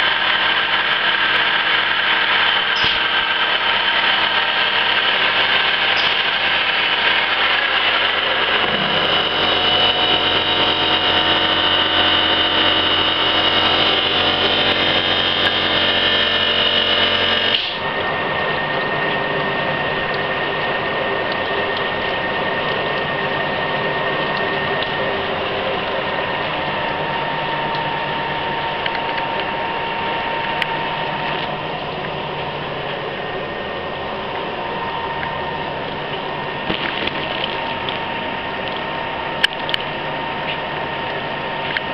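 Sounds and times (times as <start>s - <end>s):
lathe mechanical whine: 0.0s - 41.9s.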